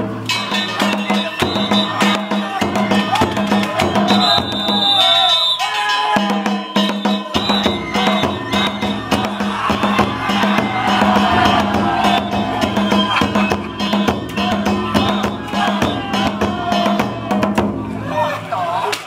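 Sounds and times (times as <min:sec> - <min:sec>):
rapid taiko drum beat: 0:00.0 - 0:05.4, 0:06.1 - 0:18.2
bamboo flute melody: 0:00.2 - 0:19.0
crowd calling out: 0:00.2 - 0:19.0.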